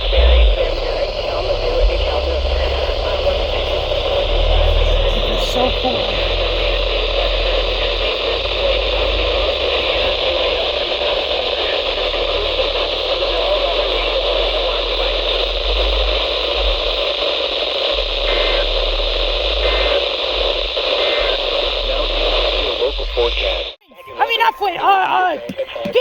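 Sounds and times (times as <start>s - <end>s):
faint voice: 0.0s - 16.4s, 19.6s - 26.0s
radio static hiss: 0.0s - 26.0s.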